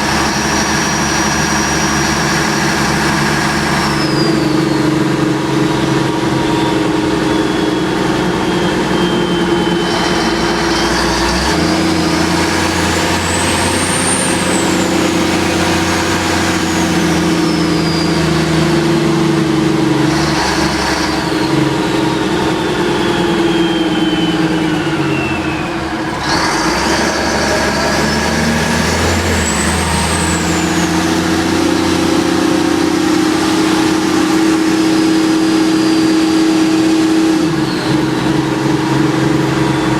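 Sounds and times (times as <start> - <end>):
fire truck engine running: 0.0 - 39.9
siren winding up and down: 0.0 - 39.9.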